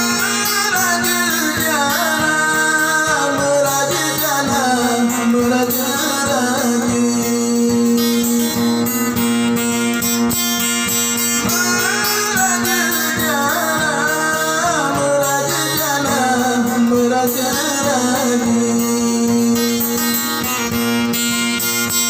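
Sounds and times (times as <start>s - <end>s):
man singing: 0.0s - 9.1s, 11.3s - 20.8s
fingerpicked acoustic guitar: 0.0s - 22.0s.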